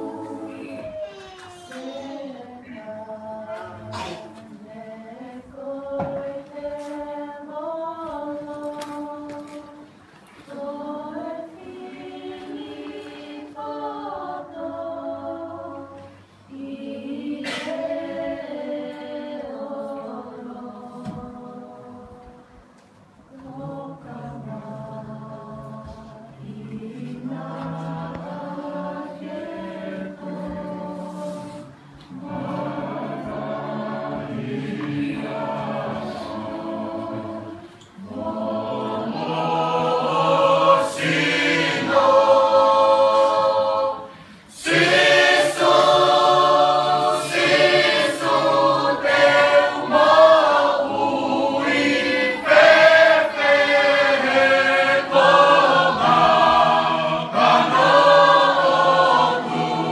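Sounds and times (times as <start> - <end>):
choir singing: 0.0 - 1.0, 2.2 - 22.4, 23.3 - 59.9.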